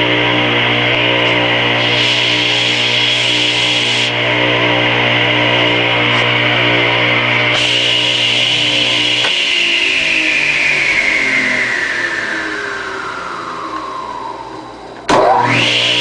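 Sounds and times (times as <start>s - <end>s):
table saw motor humming and whining: 0.0s - 16.0s.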